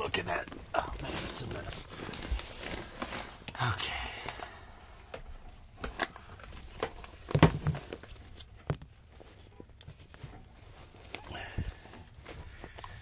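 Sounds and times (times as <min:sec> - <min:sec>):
handling and rustling noises: 0:00.0 - 0:13.0.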